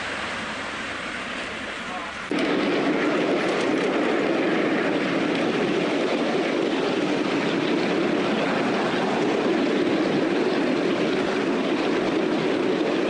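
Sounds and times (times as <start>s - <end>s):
miniature railway locomotive running: 0.0s - 13.0s.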